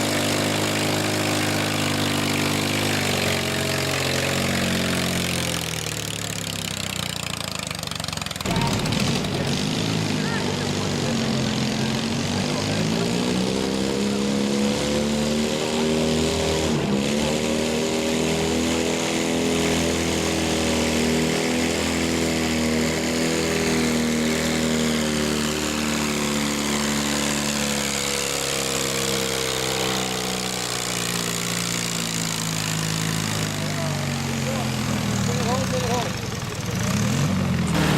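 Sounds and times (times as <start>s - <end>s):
lawn mower engine at high revs: 0.0s - 37.9s.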